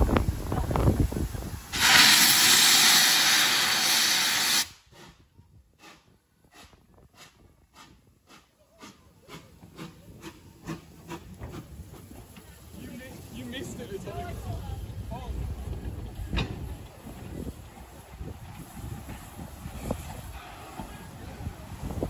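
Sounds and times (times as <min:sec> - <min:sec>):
steam hissing from locomotive: 0:00.0 - 0:05.2, 0:05.8 - 0:22.0.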